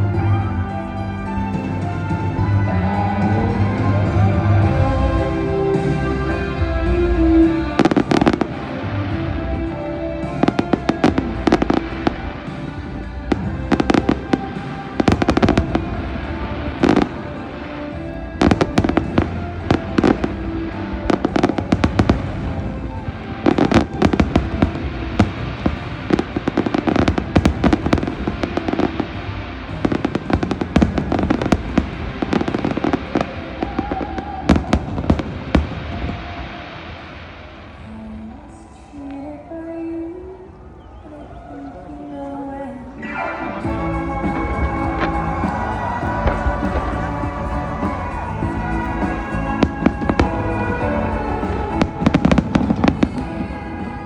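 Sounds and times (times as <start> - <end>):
fireworks bangs and crackles: 0.0 - 39.1, 43.4 - 54.0
music: 0.0 - 54.0.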